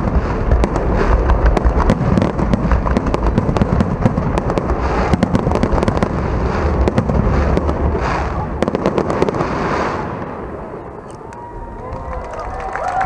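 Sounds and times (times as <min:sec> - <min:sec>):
low rumble: 0:00.0 - 0:12.7
fireworks bangs and crackling: 0:00.0 - 0:13.0.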